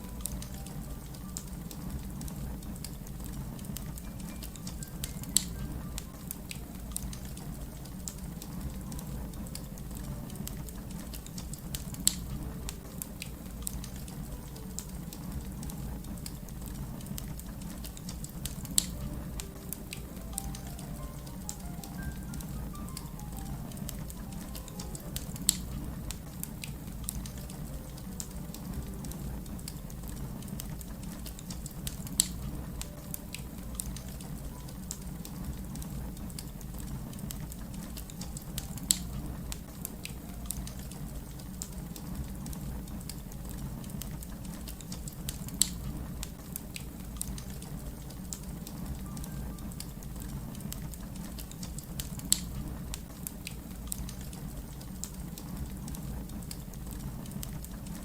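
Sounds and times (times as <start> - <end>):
fire popping sharply: 0.0 - 54.7
wood fire crackling: 0.0 - 58.0.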